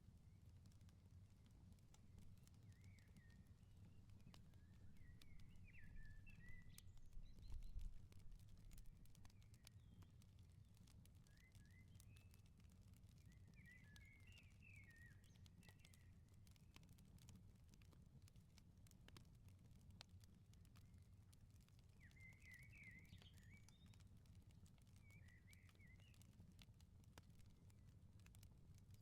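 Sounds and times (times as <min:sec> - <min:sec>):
wood fire crackling and popping: 0:00.1 - 0:29.0.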